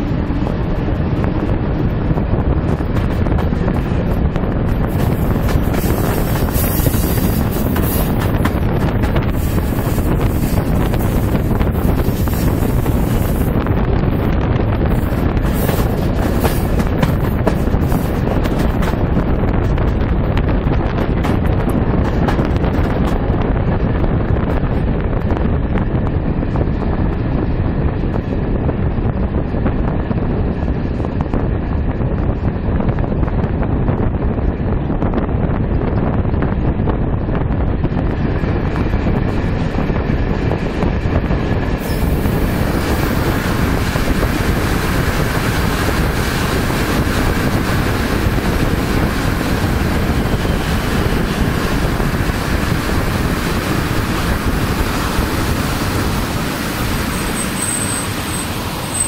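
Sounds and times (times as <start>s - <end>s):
train wheels rumbling on rail: 0.0s - 59.0s
wind noise: 0.0s - 59.0s.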